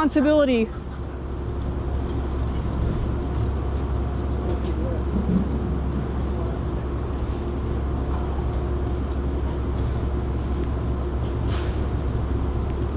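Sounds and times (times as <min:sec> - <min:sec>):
faint street noise: 0:00.0 - 0:12.9
vehicle engine rumbling: 0:00.0 - 0:12.9.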